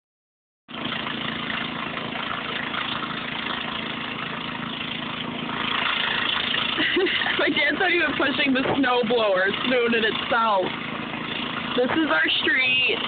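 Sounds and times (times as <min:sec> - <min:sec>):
snow blower engine running: 0:00.7 - 0:13.0.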